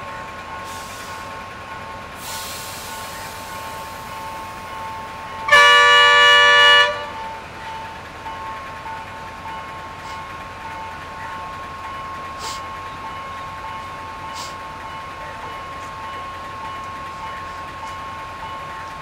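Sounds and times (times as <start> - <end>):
wheels clacking on track: 0.0 - 19.0.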